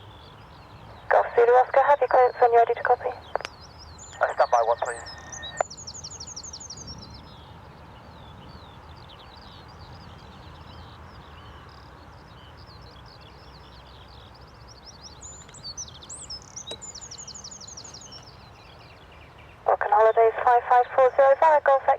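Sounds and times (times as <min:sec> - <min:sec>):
songbirds chirping: 0:00.0 - 0:21.9.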